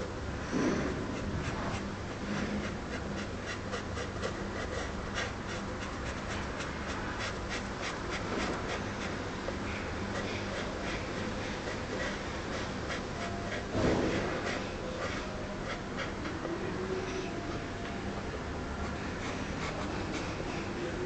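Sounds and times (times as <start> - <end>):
steady low hum: 0.0 - 21.0
marker scratching on plastic: 0.6 - 16.6, 18.8 - 21.0.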